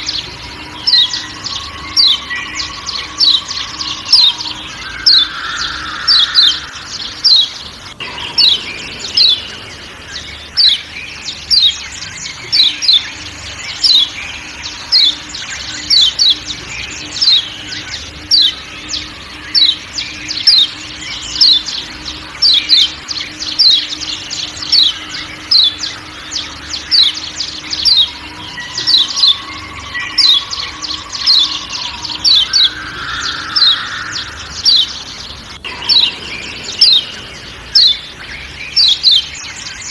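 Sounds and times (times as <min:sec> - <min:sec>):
bird sharp calls: 0:00.0 - 0:39.9
faint forest sounds: 0:00.0 - 0:39.9.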